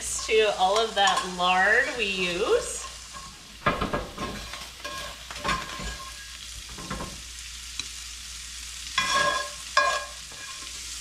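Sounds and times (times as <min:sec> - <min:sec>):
metal utensil scraping a pan: 0:00.0 - 0:07.1, 0:08.9 - 0:11.0
eggs sizzling in a skillet: 0:00.0 - 0:11.0.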